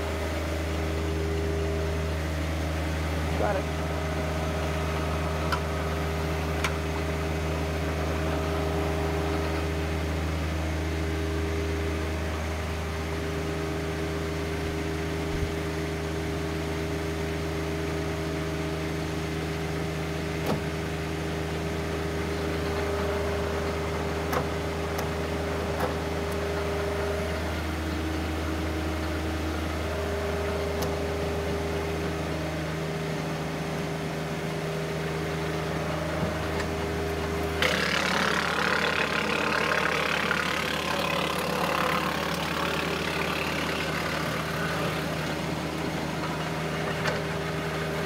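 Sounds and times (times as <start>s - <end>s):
tractor engine driving wood chipper: 0.0s - 48.0s.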